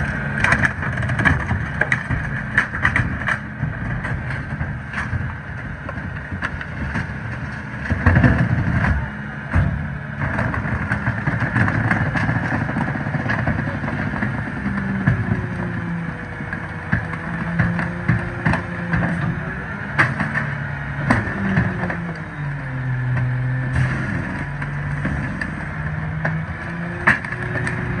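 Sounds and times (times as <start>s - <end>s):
garbage truck engine running: 0.0s - 28.0s.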